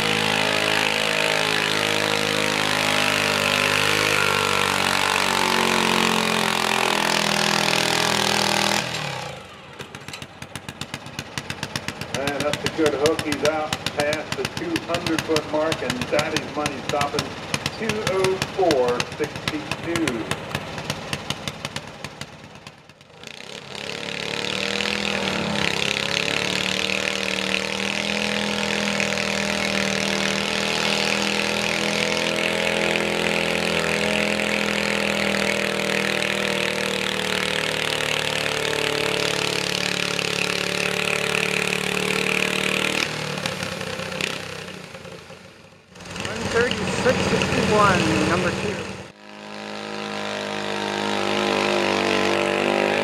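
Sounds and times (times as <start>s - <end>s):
engine idling: 0.0s - 51.7s
tractor engine under load: 0.0s - 53.0s.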